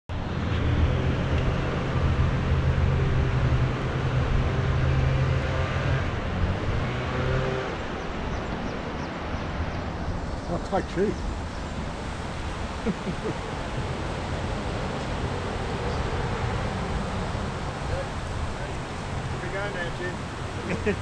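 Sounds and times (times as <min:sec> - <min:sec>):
steady rushing noise: 0:00.1 - 0:21.0.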